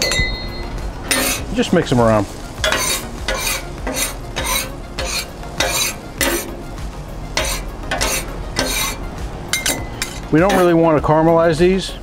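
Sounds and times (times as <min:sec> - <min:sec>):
onions sizzling: 0:00.0 - 0:10.9
metal spatula scraping griddle: 0:01.0 - 0:11.0.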